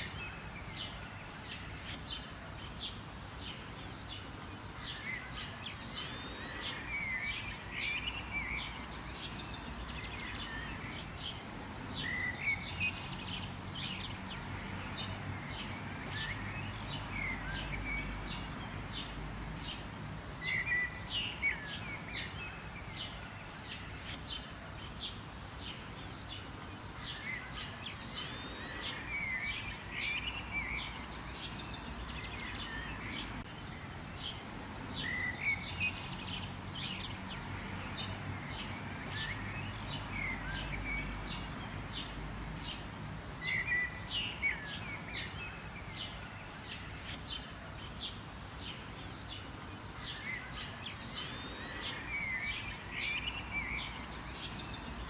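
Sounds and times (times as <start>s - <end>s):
birds chirping and singing: 0.0s - 55.0s.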